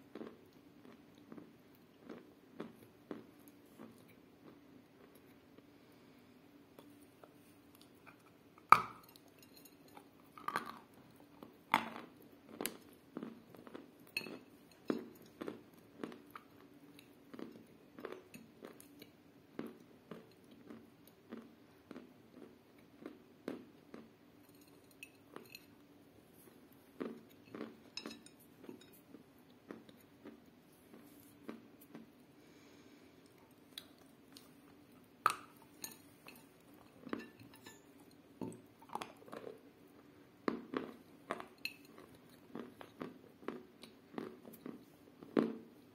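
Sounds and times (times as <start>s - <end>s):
crunchy chewing: 0.0s - 5.8s, 6.8s - 45.8s.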